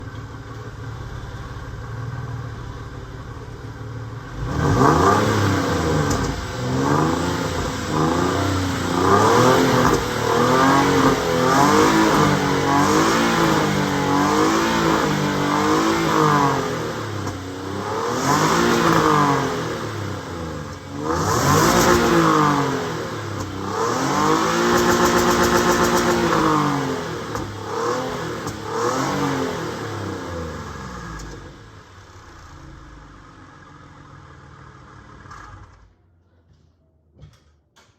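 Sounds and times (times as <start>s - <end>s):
car engine idling and revving: 0.0s - 36.2s.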